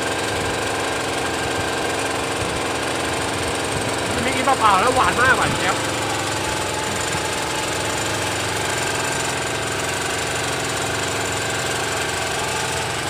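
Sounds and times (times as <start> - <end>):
boat engine running steadily: 0.0 - 13.0.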